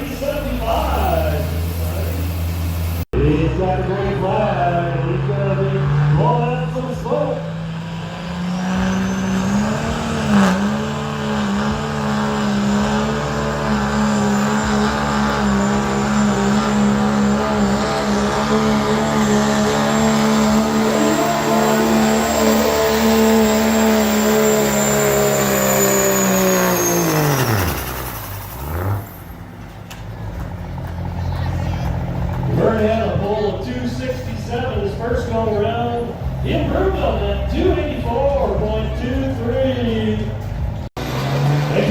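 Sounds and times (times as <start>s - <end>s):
diesel truck engine at high revs: 0.0s - 41.9s.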